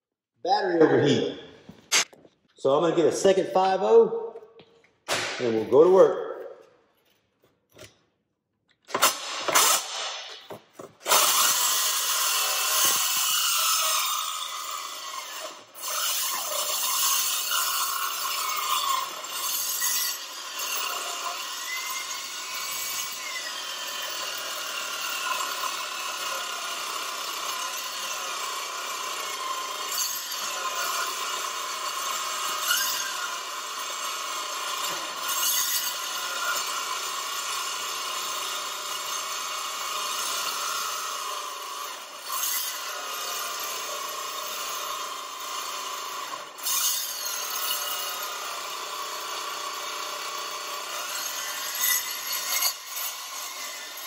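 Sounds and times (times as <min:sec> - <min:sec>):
circular saw cutting steel: 0:08.9 - 0:54.0.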